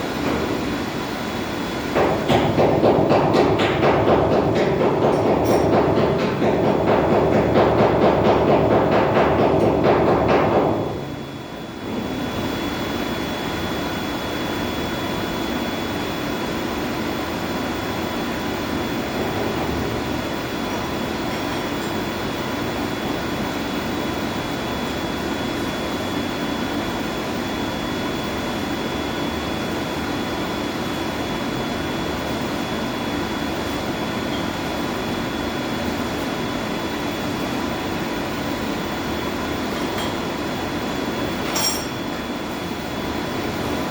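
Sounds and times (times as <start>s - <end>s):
pumps and fans running: 0.0s - 43.9s.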